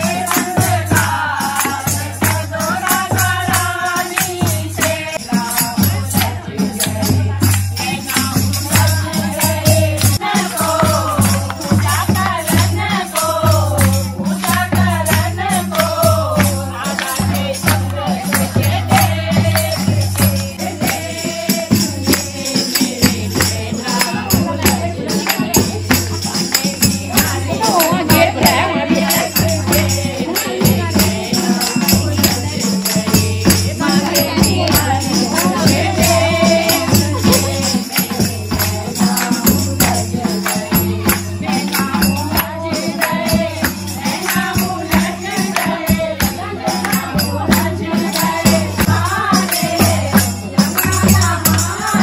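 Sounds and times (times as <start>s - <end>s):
tambourine jingles: 0.0s - 52.0s
women singing together: 0.0s - 52.0s
hand-clapping: 0.1s - 33.1s, 34.0s - 52.0s.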